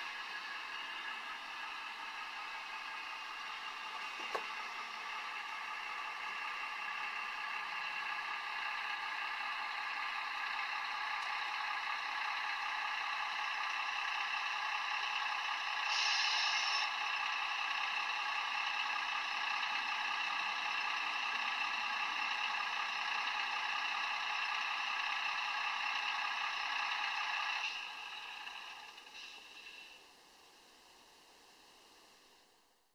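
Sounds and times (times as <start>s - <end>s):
tinny diesel engine drone: 0.0s - 32.6s.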